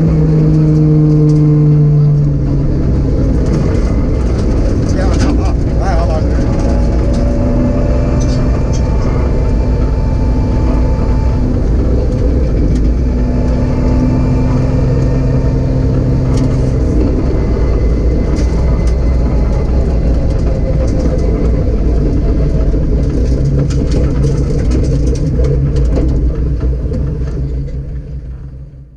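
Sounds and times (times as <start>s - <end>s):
rally car engine running hard: 0.0s - 28.9s.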